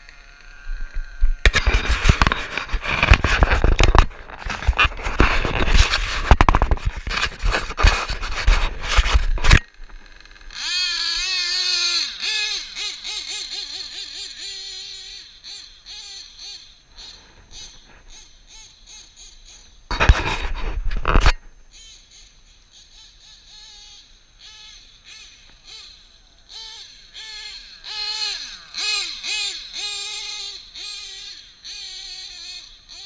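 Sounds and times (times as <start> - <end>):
rc car engine rattling and revving: 0.0 - 33.0.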